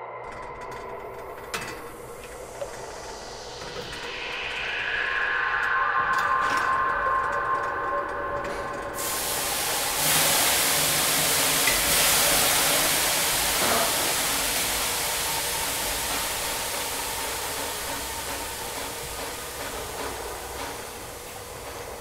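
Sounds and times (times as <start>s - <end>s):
broad rushing hiss: 1.5s - 22.0s.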